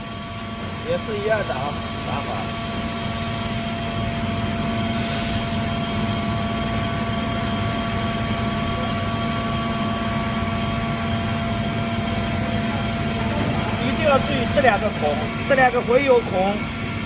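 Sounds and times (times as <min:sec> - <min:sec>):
steady machinery hum: 0:00.0 - 0:17.0.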